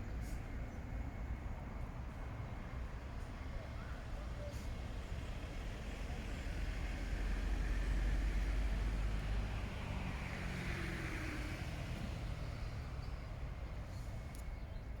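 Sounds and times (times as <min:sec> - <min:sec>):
distant road traffic rumble: 0:02.8 - 0:15.0.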